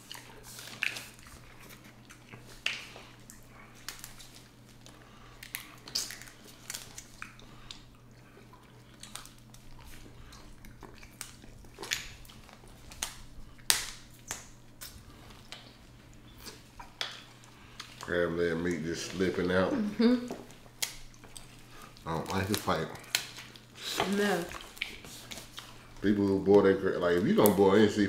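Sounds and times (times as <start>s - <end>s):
crab shells cracking: 0.0s - 19.5s, 20.3s - 27.9s
chewing: 0.0s - 19.6s, 20.2s - 26.0s.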